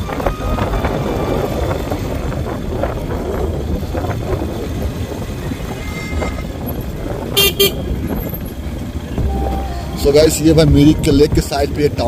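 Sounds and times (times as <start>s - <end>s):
motorcycle engine rumble: 0.0s - 12.0s
wind noise: 0.0s - 12.0s.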